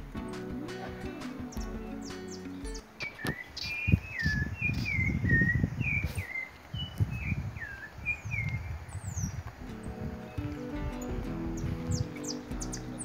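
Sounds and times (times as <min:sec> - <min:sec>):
bird chirping: 0:00.0 - 0:13.0
wind buffeting microphone: 0:01.0 - 0:13.0.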